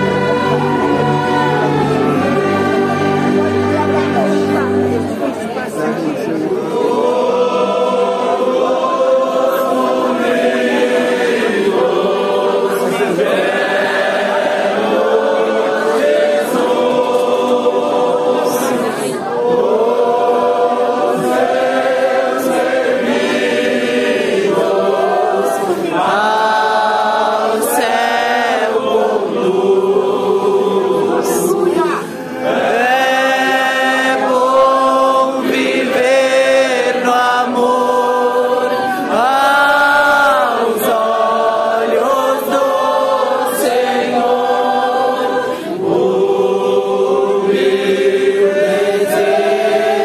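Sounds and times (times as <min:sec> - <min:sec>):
congregation singing a hymn: 0:00.0 - 0:50.0.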